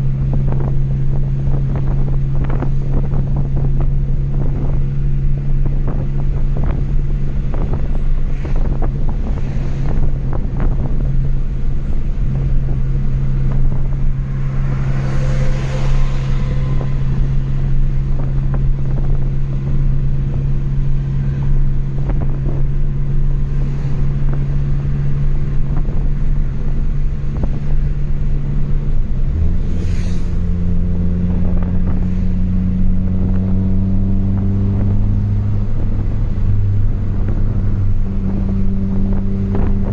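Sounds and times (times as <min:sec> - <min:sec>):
car engine through loud exhaust: 0:00.0 - 0:39.9
road and wind noise: 0:00.0 - 0:39.9.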